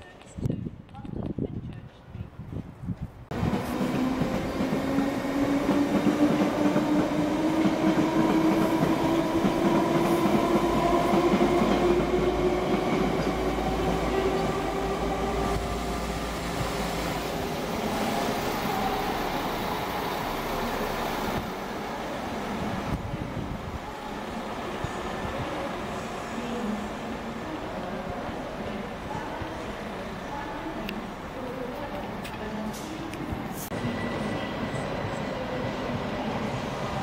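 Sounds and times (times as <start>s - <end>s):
train wheels rumbling: 2.9s - 37.0s.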